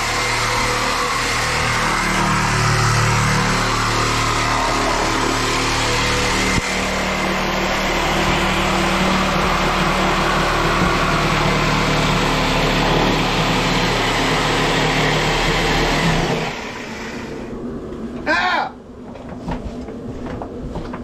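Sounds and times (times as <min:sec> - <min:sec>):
electric power tool running: 0:00.0 - 0:17.5.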